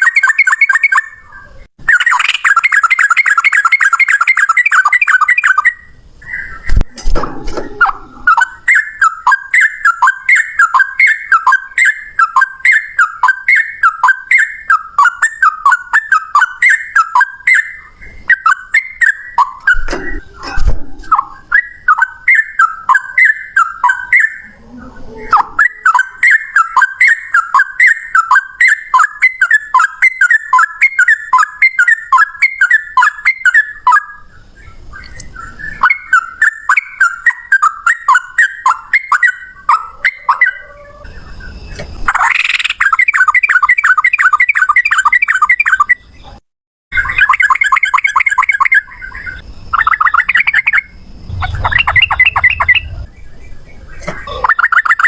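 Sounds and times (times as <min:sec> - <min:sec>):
bird whistling song: 0:00.0 - 0:06.9, 0:07.6 - 0:24.5, 0:25.2 - 0:55.0.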